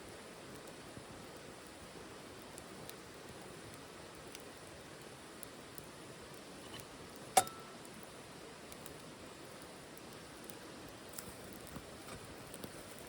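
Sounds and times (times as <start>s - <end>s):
wood fire hissing and ticking: 0.0s - 13.0s
burning wood cracking loudly: 0.3s - 13.0s.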